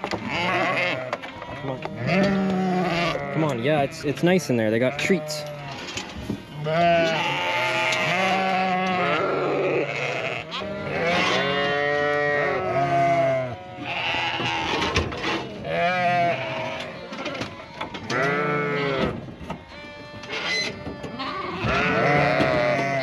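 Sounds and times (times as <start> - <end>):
sheep and lambs bleating: 0.0 - 23.0.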